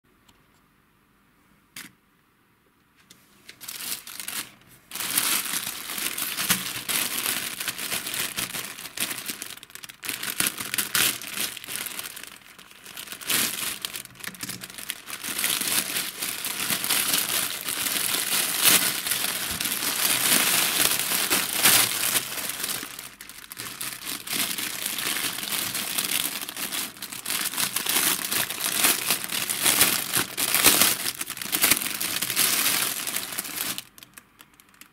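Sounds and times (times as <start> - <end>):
plastic bag crinkling: 3.5 - 34.9.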